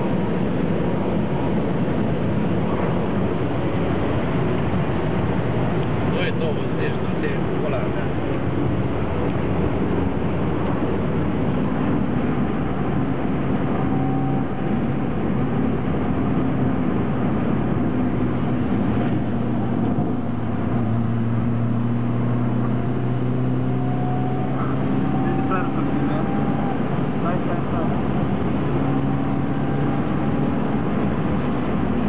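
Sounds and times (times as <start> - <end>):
car engine running at speed: 0.0 - 32.0
road and tyre noise: 0.0 - 32.0.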